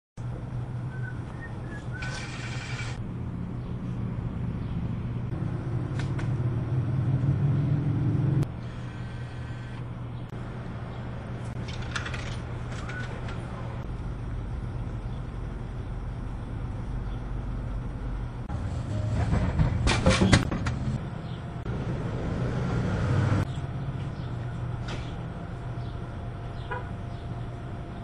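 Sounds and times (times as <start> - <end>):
low hum: 0.2 - 28.0
traffic passing: 0.2 - 28.0.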